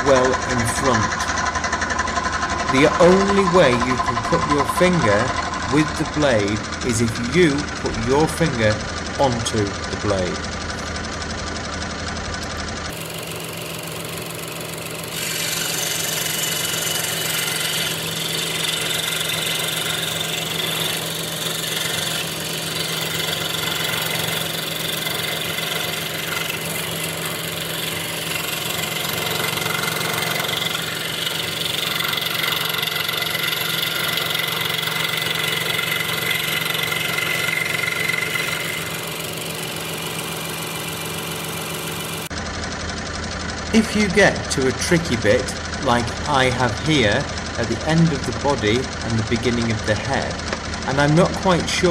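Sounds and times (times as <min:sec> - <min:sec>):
saw blade rasping through wood: 0:00.0 - 0:10.4, 0:12.9 - 0:42.3, 0:44.0 - 0:51.9
scroll saw motor hum: 0:00.0 - 0:51.9.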